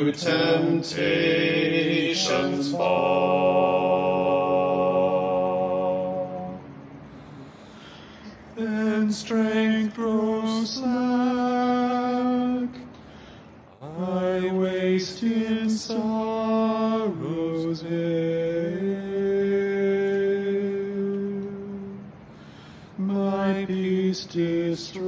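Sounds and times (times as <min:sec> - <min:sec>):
male quartet singing a hymn: 0:00.0 - 0:06.8, 0:08.6 - 0:12.8, 0:13.8 - 0:22.1, 0:22.9 - 0:25.0.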